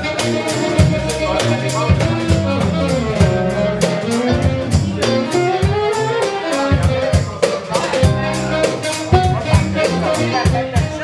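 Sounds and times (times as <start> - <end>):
drum kit beat: 0.0 - 11.0
electric bass: 0.0 - 11.0
electric guitar: 0.0 - 11.0
saxophone lead line: 0.0 - 11.0.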